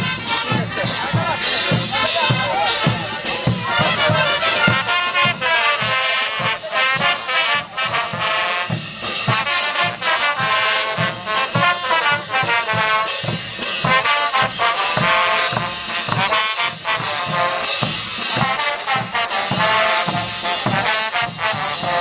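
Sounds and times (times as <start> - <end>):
brass instruments playing melody: 0.0 - 22.0
steady low drum beat: 0.0 - 22.0.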